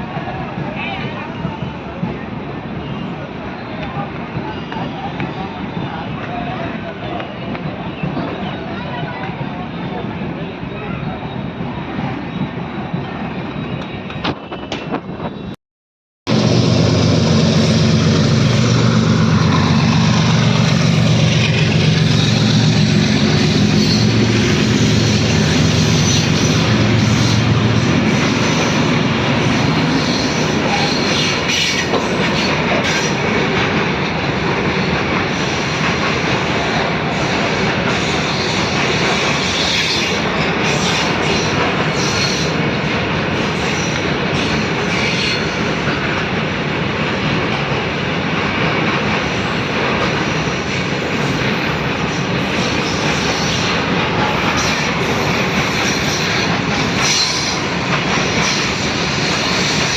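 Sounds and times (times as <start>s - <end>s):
train wheels on track: 0.0s - 15.5s, 16.3s - 59.9s.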